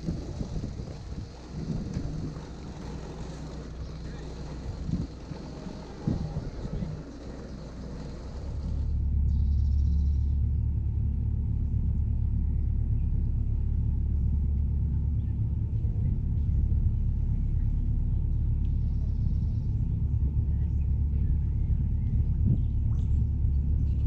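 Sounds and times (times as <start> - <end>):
boat diesel engine rumbling: 0.0 - 24.0.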